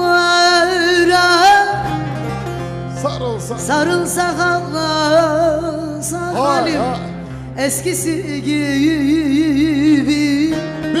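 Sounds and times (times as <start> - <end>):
folk music: 0.0 - 11.0.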